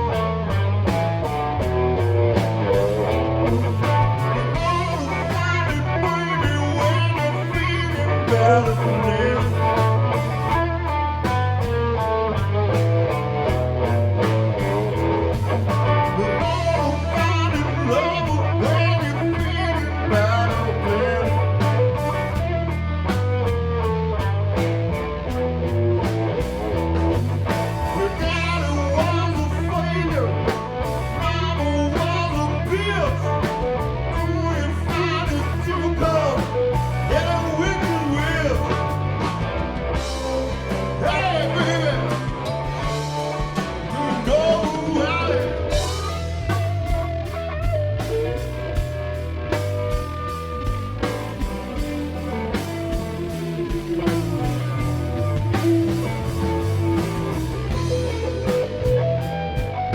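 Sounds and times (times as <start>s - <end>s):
blues rock band playing: 0.0s - 59.9s
electric guitar bending notes: 0.0s - 59.9s.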